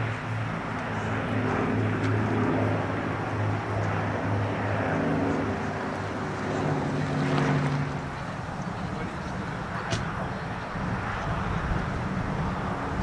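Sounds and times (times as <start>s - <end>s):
aircraft piston engines humming: 0.0s - 13.0s.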